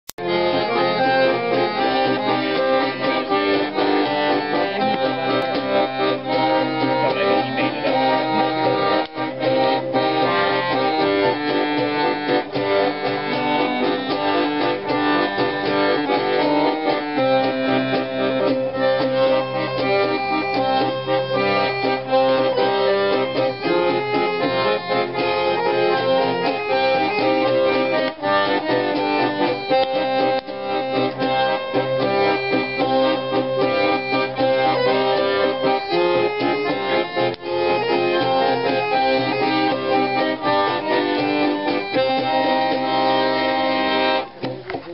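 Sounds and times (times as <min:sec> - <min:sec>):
accordion playing a tune: 0:00.1 - 0:44.9
strummed guitar: 0:00.2 - 0:44.9.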